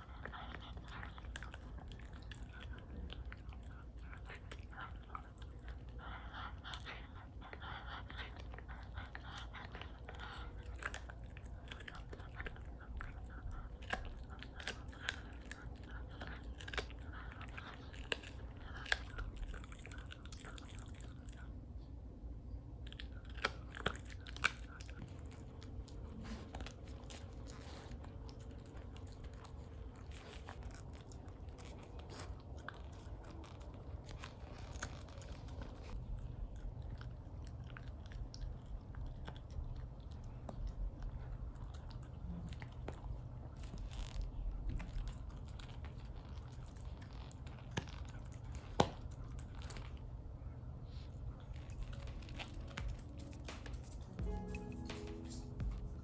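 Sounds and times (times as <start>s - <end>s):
dog gnawing chew: 0.0s - 22.0s, 22.7s - 56.0s.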